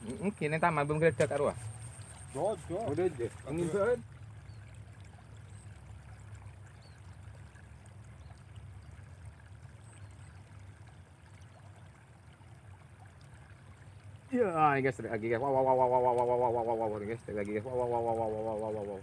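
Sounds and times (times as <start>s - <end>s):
water trickling in canal: 0.0s - 19.0s.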